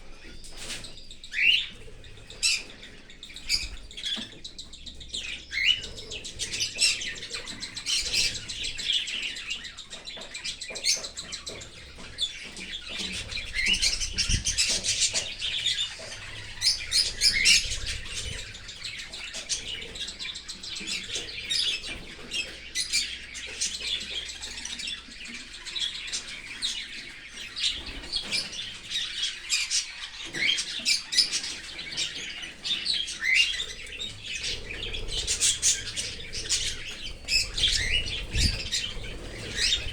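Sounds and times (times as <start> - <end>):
cockatiels chirping: 0.0 - 39.9.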